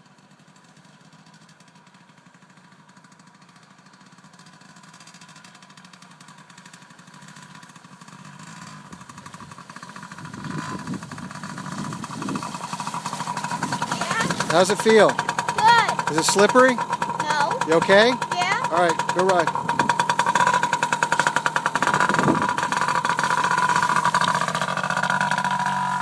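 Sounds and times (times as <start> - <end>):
dirt bike engine approaching: 0.0 - 26.0.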